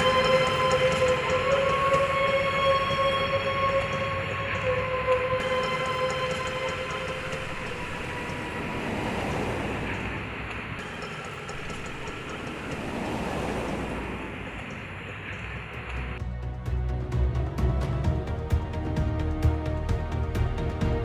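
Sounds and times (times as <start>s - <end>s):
road traffic rumble: 0.0s - 20.6s.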